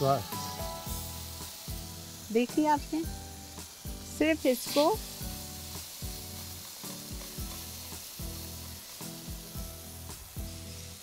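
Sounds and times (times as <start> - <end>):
background music: 0.0 - 11.0
steaks sizzling in hot oil: 0.0 - 11.0.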